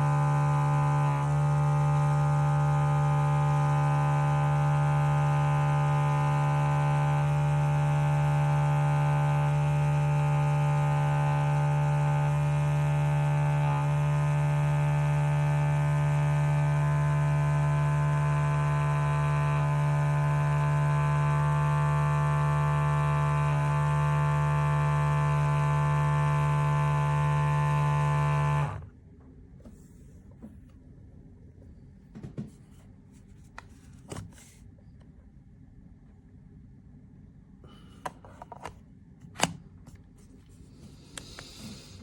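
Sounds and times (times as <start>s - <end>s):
electric pump buzzing hum: 0.0s - 30.5s, 37.6s - 42.0s.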